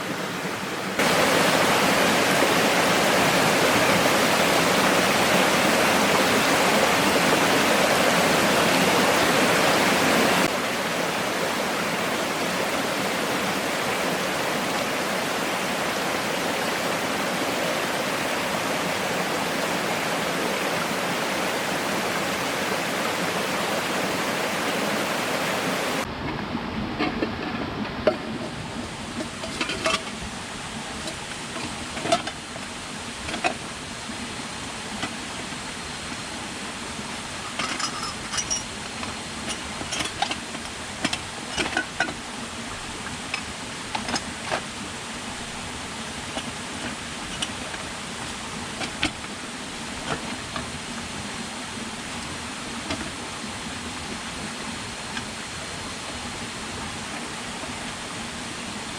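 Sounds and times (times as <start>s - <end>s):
water rushing: 0.0s - 58.9s.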